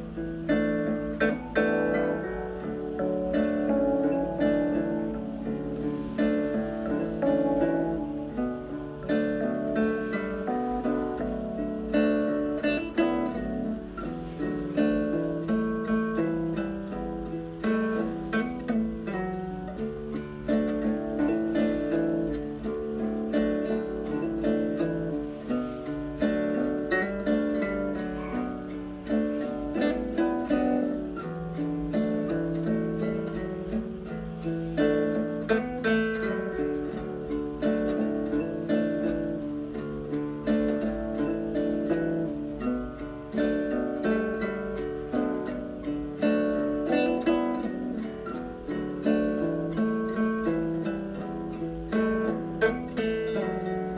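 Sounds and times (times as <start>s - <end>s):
acoustic guitar music: 0.0s - 53.9s.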